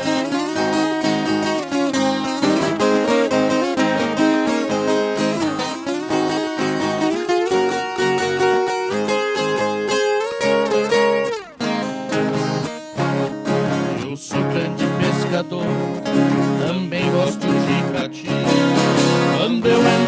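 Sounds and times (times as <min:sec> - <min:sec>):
strummed acoustic guitar: 0:00.0 - 0:20.0
viola picking a melody: 0:00.0 - 0:20.0.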